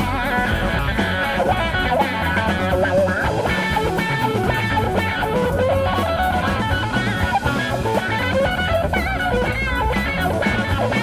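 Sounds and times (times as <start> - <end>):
bass: 0.0 - 11.0
drum kit: 0.0 - 11.0
guitar melody with bending notes: 0.0 - 11.0.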